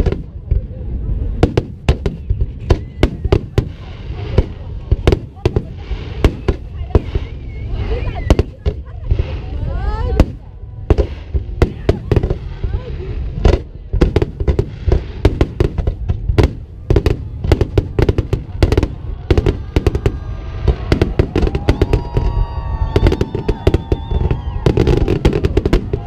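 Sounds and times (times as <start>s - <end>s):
constant rumble: 0.0s - 26.0s
fireworks bangs and crackles: 0.0s - 26.0s.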